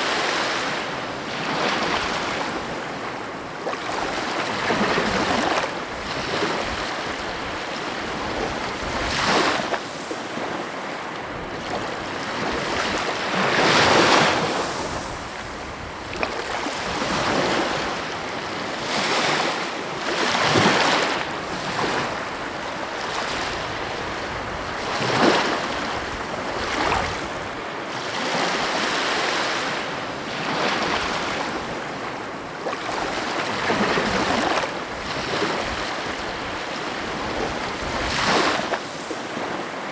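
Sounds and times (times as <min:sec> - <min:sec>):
wind noise on microphone: 0:00.0 - 0:27.7, 0:30.3 - 0:39.6
sea waves breaking: 0:00.0 - 0:39.9.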